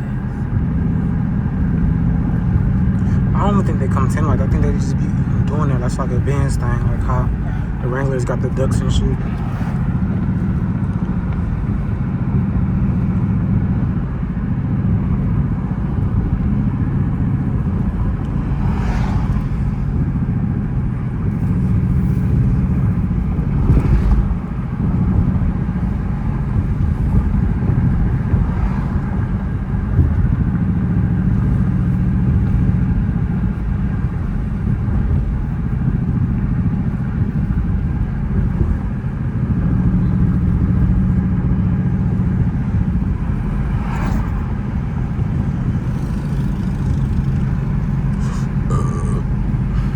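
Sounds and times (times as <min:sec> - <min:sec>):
car engine and exhaust running: 0:00.0 - 0:49.9.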